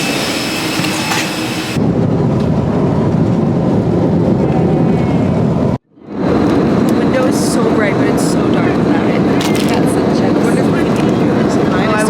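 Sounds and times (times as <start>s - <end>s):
jet engine whine: 0.0s - 12.0s
deep steady cabin rumble: 1.3s - 12.0s.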